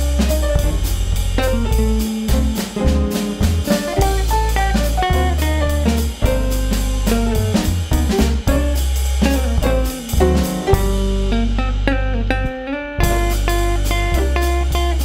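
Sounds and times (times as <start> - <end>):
bluesy jazz instrumental: 0.0 - 15.0.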